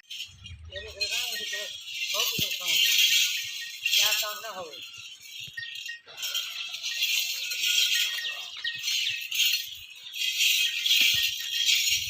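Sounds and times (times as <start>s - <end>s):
small bells jingling: 0.0s - 12.0s.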